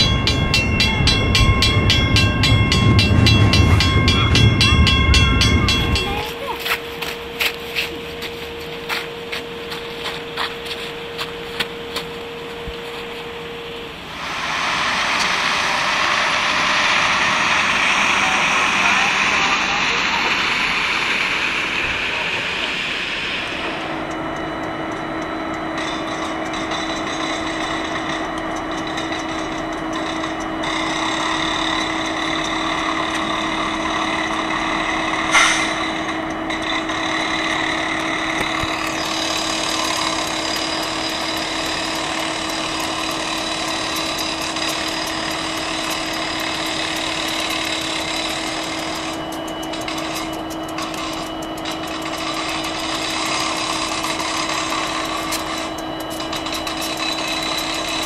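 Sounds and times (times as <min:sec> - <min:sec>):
diesel locomotives idling: 0:00.0 - 0:58.0.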